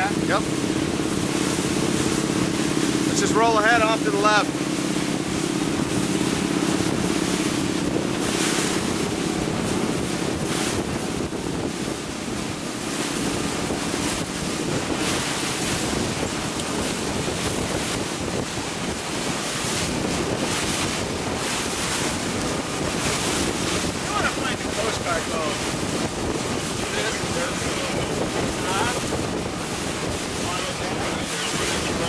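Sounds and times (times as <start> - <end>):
boat engine drone: 0.0 - 32.0
water rushing along boat hull: 0.0 - 32.0
wind buffeting microphone: 0.0 - 32.0.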